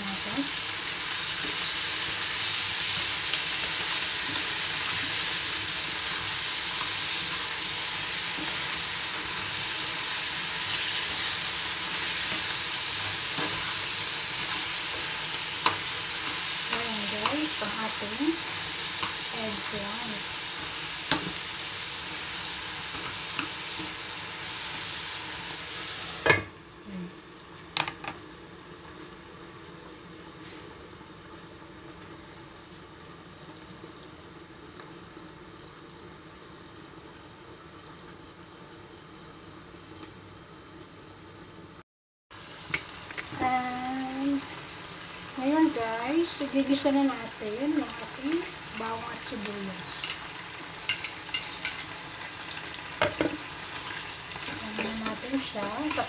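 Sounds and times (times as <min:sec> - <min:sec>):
food sizzling in hot oil: 0:00.0 - 0:56.0.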